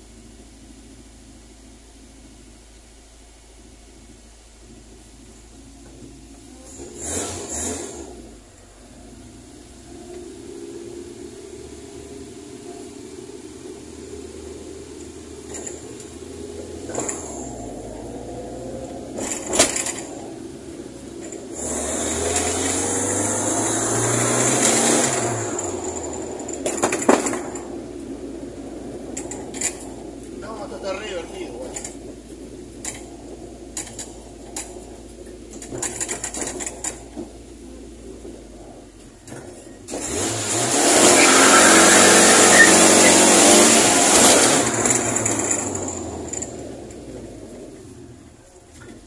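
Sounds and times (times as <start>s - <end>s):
race car engine accelerating: 6.6s - 49.0s.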